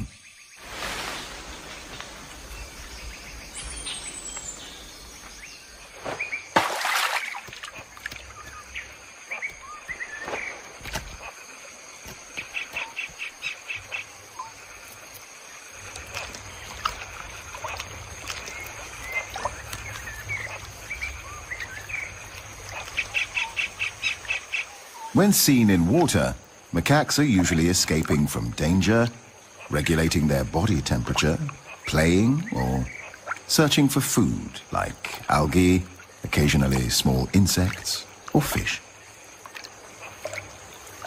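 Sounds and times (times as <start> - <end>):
high insect drone: 0.0 - 41.0.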